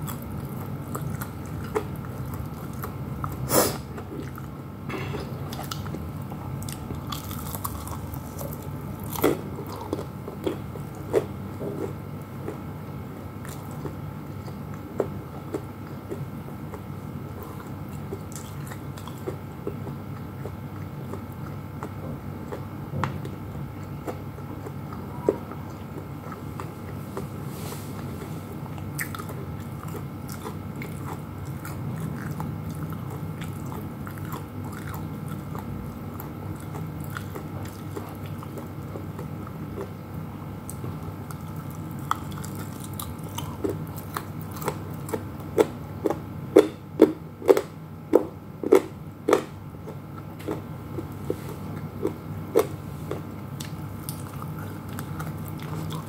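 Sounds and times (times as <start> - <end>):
chewing crispy fried chicken: 0.0 - 56.0
low background hum: 0.0 - 56.0.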